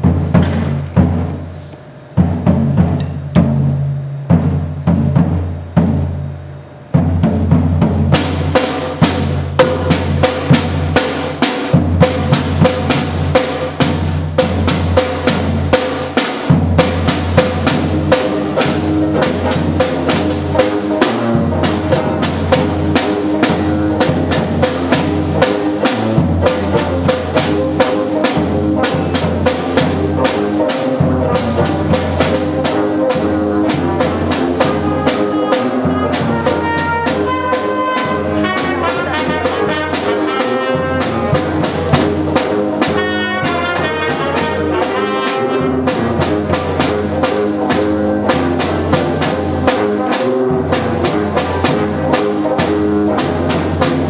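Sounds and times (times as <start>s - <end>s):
brass band playing: 0.0s - 54.0s
heavy drum strokes: 0.0s - 54.0s.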